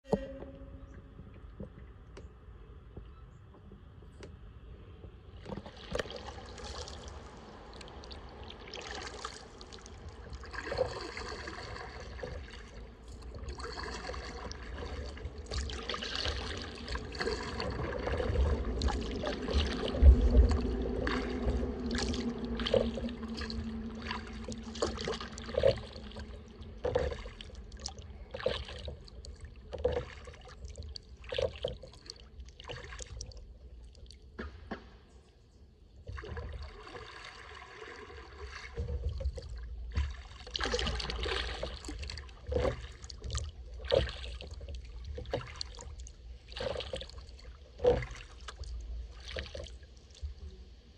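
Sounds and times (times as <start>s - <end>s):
paddle dipping in water: 2.9s - 50.9s
short water splashes: 5.3s - 35.1s, 36.0s - 50.6s
water dripping off paddle: 5.4s - 34.3s, 38.4s - 50.4s.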